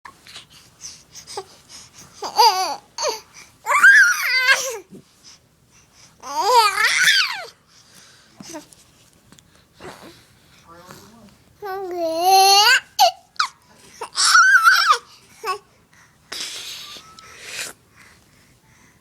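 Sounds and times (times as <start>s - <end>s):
soft little noises: 0.1s - 19.0s.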